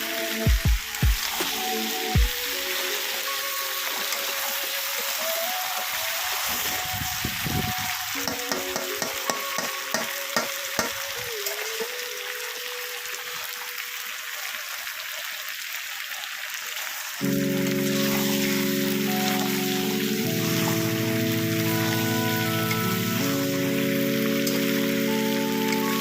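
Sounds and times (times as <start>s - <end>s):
background music: 0.0s - 14.0s, 17.2s - 26.0s
curry sizzling in a pan: 0.0s - 26.0s.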